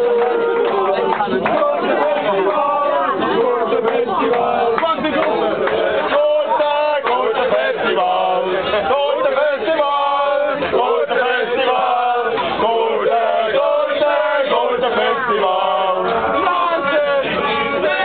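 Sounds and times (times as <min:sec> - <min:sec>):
group singing and chanting: 0:00.0 - 0:18.0.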